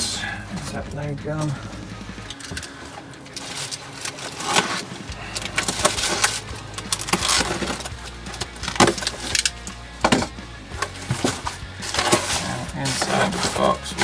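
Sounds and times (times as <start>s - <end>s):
cardboard scraping and crackling: 2.5s - 14.0s.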